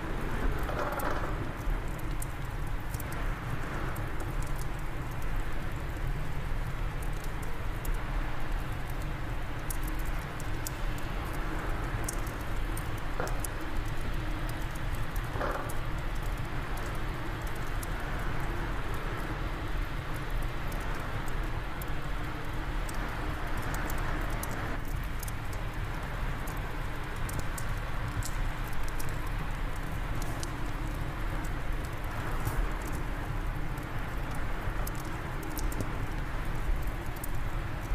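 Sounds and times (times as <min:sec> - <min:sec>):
fire crackling and popping: 0:00.0 - 0:37.9.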